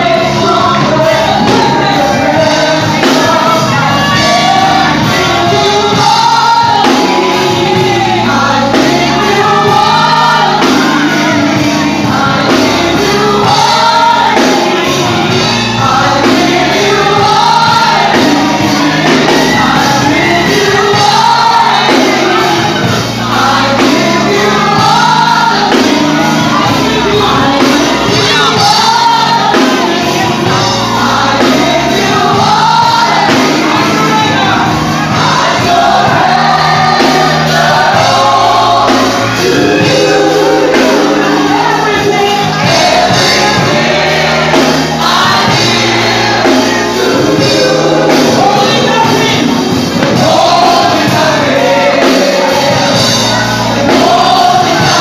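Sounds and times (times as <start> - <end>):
amplified instrumental backing: 0.0 - 55.0
gospel group singing: 0.0 - 55.0.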